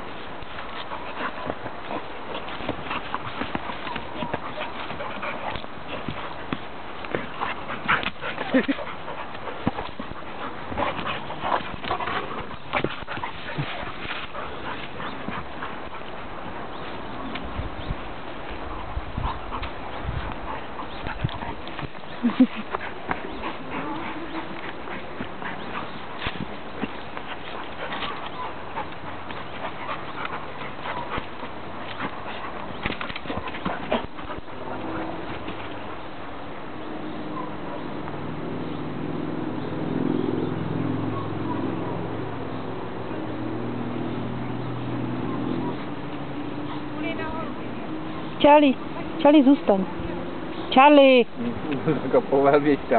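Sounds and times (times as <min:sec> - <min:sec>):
dogs play-fighting: 0:00.0 - 0:52.9.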